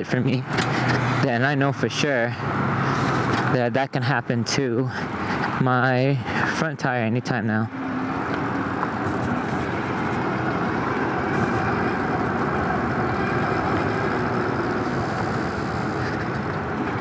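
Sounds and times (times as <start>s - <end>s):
hum of tyres on asphalt: 0.0s - 17.0s.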